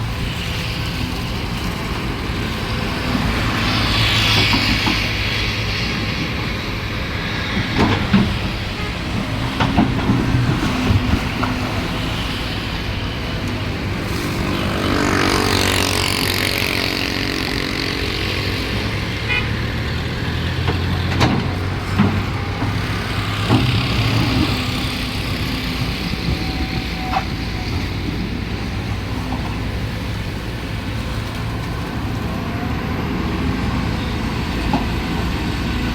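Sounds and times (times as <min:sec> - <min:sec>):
heavy diesel machinery running: 0:00.0 - 0:35.9.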